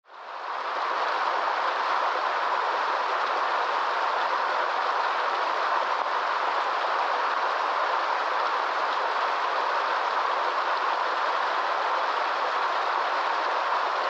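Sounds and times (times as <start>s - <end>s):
stream cascading over rocks: 0.1s - 14.0s.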